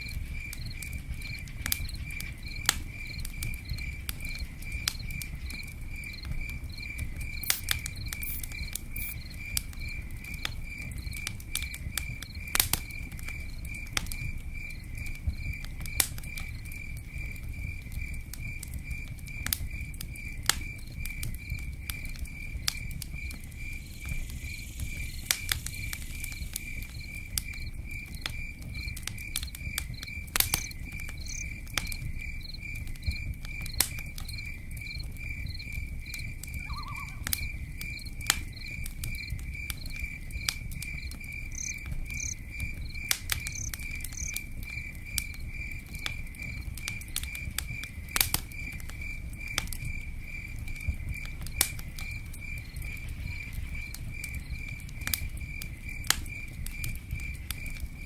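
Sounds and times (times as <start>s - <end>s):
campfire crackling and popping: 0.0s - 58.0s
cricket chirping: 0.0s - 58.0s.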